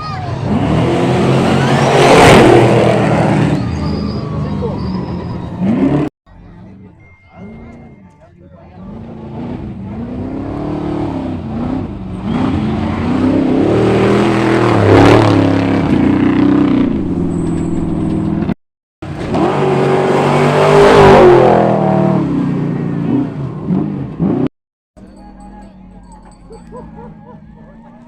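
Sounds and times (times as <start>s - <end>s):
race trucks passing at full throttle: 0.0s - 8.0s, 8.8s - 24.5s.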